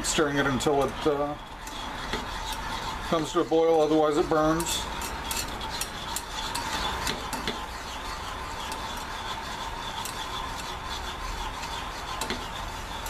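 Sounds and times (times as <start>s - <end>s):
whisk scraping a saucepan: 0.0s - 13.0s.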